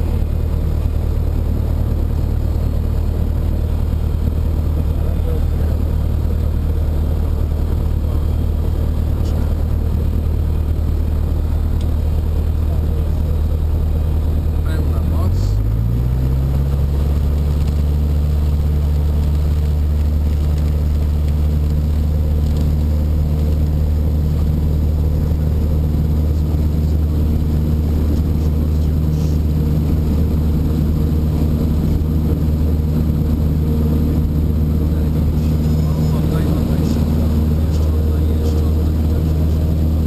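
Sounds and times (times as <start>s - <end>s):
small plane engine and propeller: 0.0s - 40.0s.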